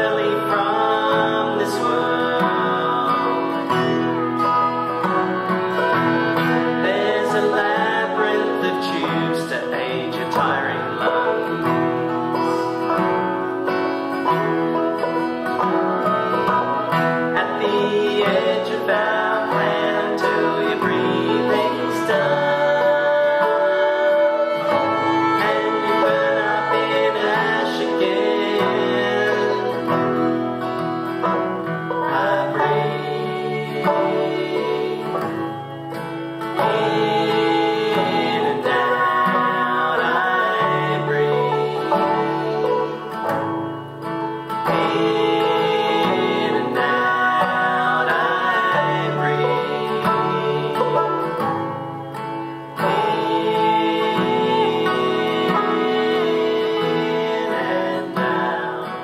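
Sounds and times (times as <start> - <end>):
acoustic guitars: 0.0 - 59.0
banjo: 0.0 - 59.0
fiddle: 0.0 - 59.0.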